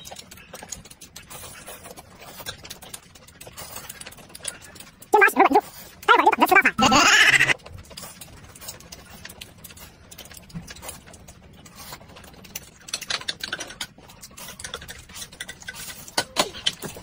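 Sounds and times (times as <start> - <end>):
noodles slurped and chewed: 0.0 - 17.0.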